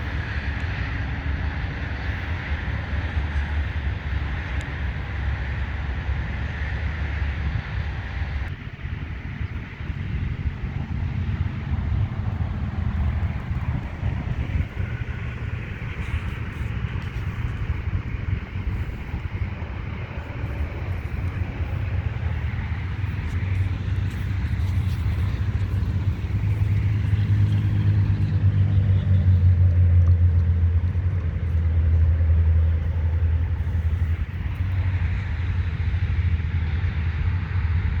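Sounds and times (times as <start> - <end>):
low vehicle rumble: 0.0 - 38.0.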